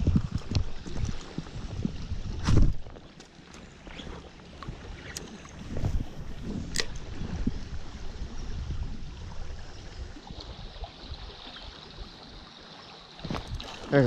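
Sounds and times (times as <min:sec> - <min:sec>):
stream water running: 0:00.0 - 0:14.0.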